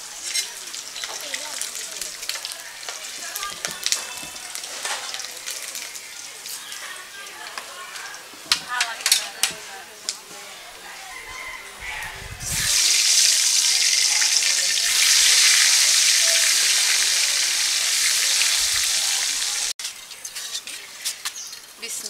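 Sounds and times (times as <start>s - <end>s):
eggs sizzling in hot oil: 0.0s - 9.6s, 11.8s - 21.6s.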